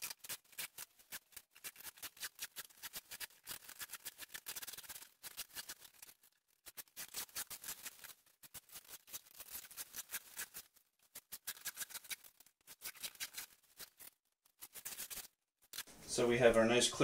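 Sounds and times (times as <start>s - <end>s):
plastic film peeling and crinkling: 0.0s - 16.0s.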